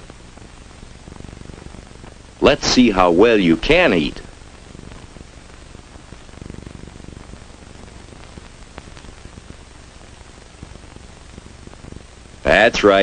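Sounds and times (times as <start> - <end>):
crackles and pops: 0.0 - 13.0
film soundtrack hiss: 0.0 - 13.0.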